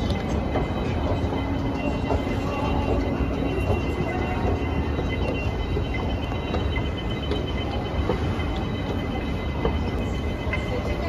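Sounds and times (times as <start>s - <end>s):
faint train whine: 0.0s - 11.0s
shuttle train rumbling: 0.0s - 11.0s.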